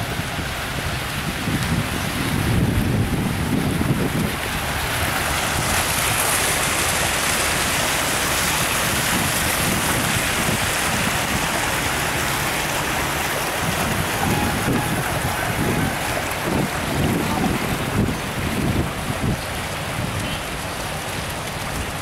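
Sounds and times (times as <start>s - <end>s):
fountain jets splashing into pool: 0.0s - 22.0s
wind rumble on microphone: 0.0s - 22.0s.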